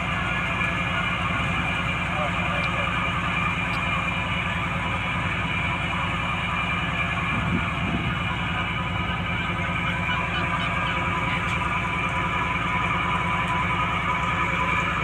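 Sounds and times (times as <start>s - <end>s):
diesel boat engine running: 0.0s - 15.0s.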